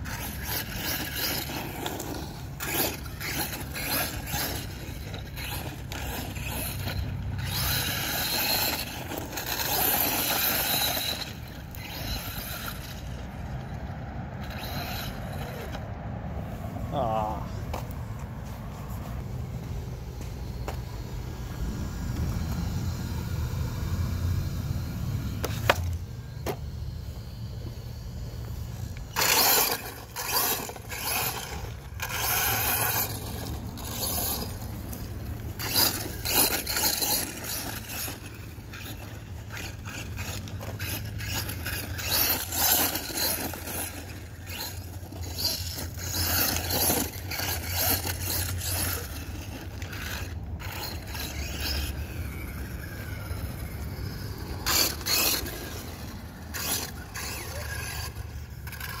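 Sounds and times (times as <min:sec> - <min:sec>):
electric motor hum: 0:00.0 - 0:59.0
tyres churning dirt: 0:00.0 - 0:59.0.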